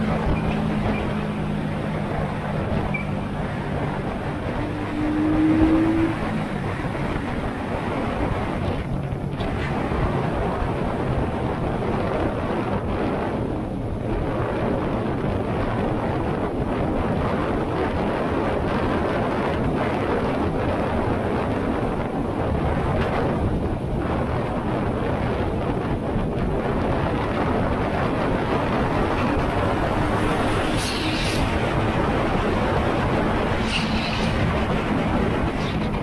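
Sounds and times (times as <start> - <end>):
wind rushing over microphone: 0.0 - 36.0.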